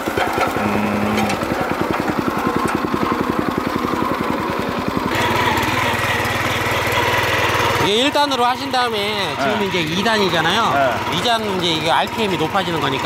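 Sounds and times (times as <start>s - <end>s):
cultivator engine running: 0.0s - 13.0s
tines tilling soil: 0.0s - 13.0s.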